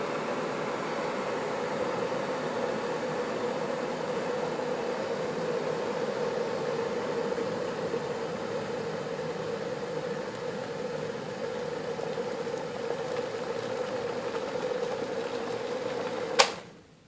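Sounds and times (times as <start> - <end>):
electric kettle boiling water: 0.0 - 17.0
kettle hum: 0.0 - 17.0.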